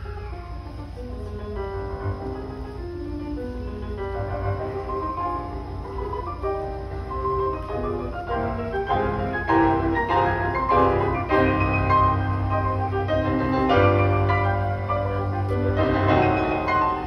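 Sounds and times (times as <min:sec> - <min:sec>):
grand pianos playing together: 0:00.0 - 0:17.0.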